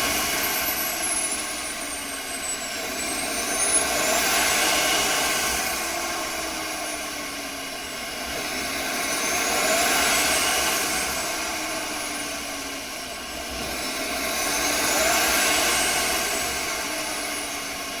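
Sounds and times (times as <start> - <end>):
turbocharger whine: 0.0 - 18.0.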